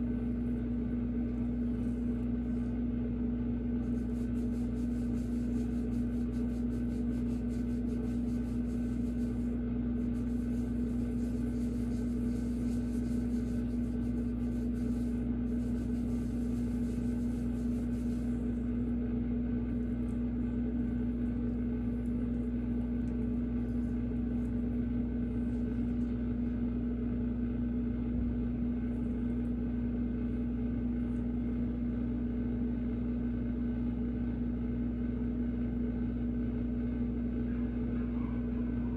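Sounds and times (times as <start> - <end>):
machine hum with low rumble: 0.0 - 38.9.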